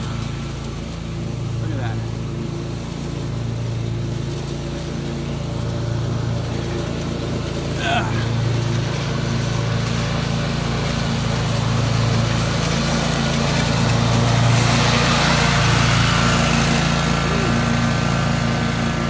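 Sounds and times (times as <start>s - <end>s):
lawn mower engine running: 0.0s - 19.0s
mower cutting long grass: 0.0s - 19.0s.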